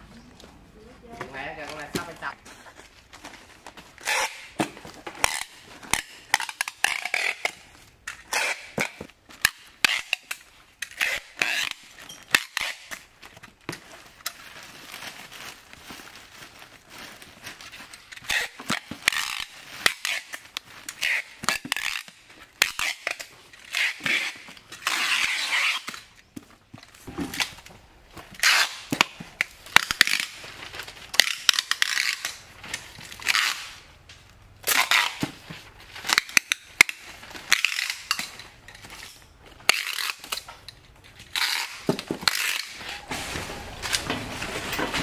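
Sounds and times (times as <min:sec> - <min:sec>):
cardboard and plastic rustling: 0:00.8 - 0:09.8, 0:10.4 - 0:22.6, 0:25.8 - 0:33.5, 0:34.2 - 0:45.0
packing tape ripping off dispenser: 0:04.0 - 0:26.2, 0:28.3 - 0:33.8, 0:34.6 - 0:45.0.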